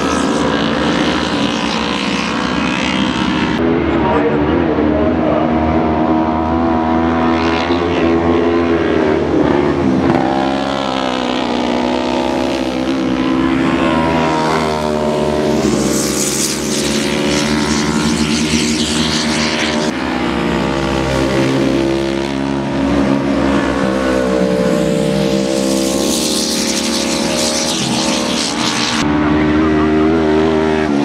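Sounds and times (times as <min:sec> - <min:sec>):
buggy engines revving: 0:00.0 - 0:31.0.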